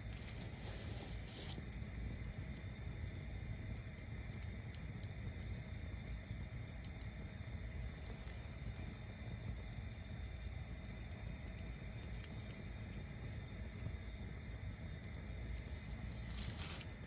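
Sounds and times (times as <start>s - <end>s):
bonfire flame rushing: 0.0s - 17.0s
wood crackling and popping: 0.0s - 17.0s.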